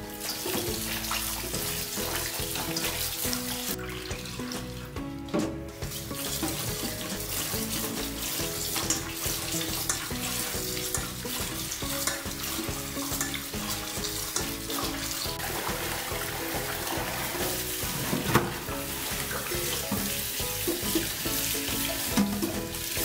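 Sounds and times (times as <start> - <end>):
background music: 0.0 - 23.0
tap water running into bowl: 0.0 - 23.0
hands squeezing dough in water: 0.2 - 23.0.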